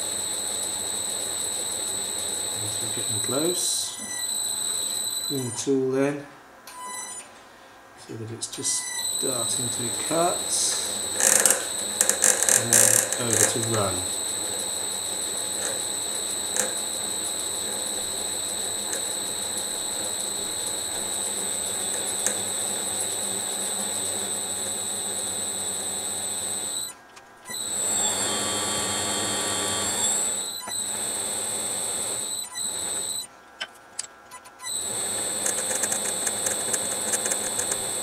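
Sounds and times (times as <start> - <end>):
lathe cutting with high whine: 0.0 - 5.8, 8.6 - 33.3, 34.6 - 38.0.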